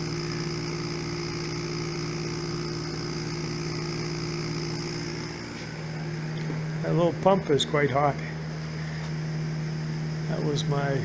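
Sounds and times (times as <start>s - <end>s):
electric vacuum pump humming: 0.0s - 11.0s.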